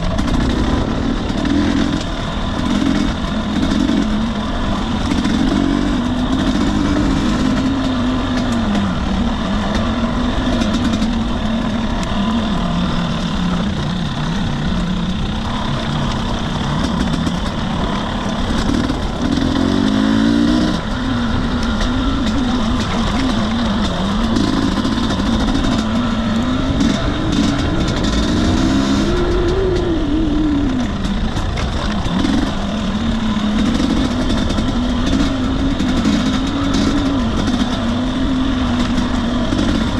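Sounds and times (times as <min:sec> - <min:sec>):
dirt bike engine revving: 0:00.0 - 0:39.9
steady rushing noise: 0:00.0 - 0:39.9.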